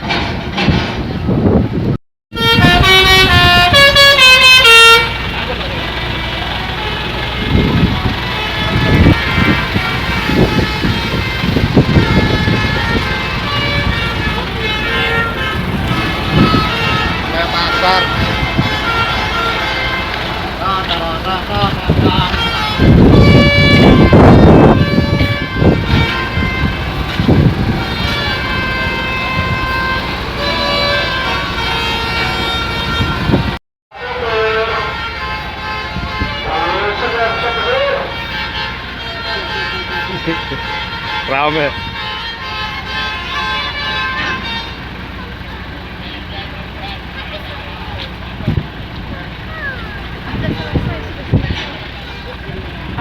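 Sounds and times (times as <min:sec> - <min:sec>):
bus engines running: 0:00.0 - 0:53.0
bus horn tones: 0:02.3 - 0:53.0.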